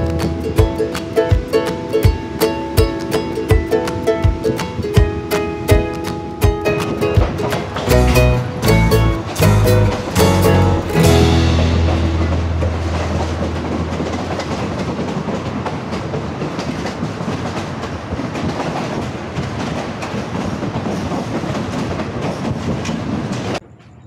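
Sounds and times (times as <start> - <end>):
train coach rumbling: 0.0 - 24.0
wheels clicking on rails: 0.0 - 24.0.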